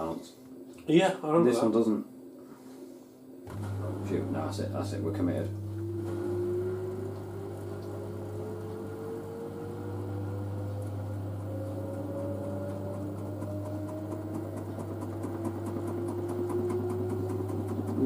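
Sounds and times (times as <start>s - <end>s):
steady low hum: 0.0s - 18.0s
washing machine motor whining: 3.3s - 18.0s.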